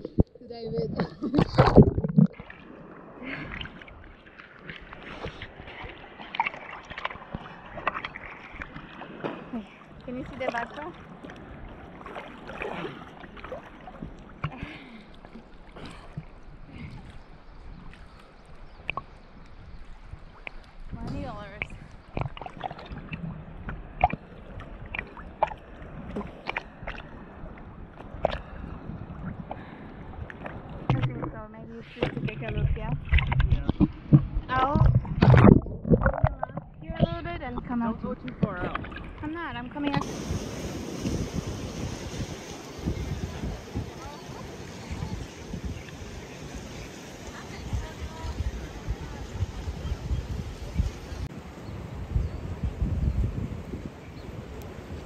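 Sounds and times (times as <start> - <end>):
water splashing and gurgling: 0.0 - 55.0.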